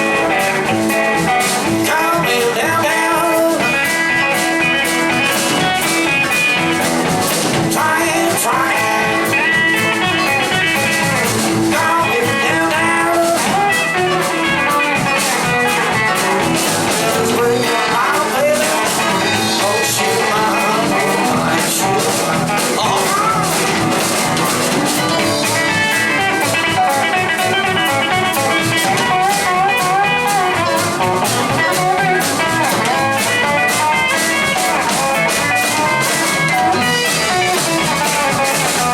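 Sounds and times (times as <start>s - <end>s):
bass: 0.0s - 38.9s
drums: 0.0s - 38.9s
electric guitars: 0.0s - 38.9s
keyboards: 0.0s - 38.9s.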